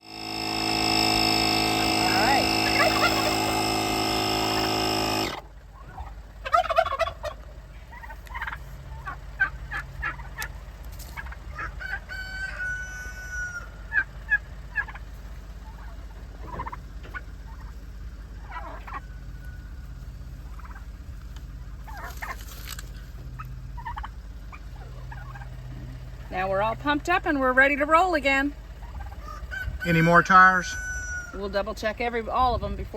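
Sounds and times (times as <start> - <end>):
turkeys gobbling: 0.1 - 27.2, 27.9 - 32.3.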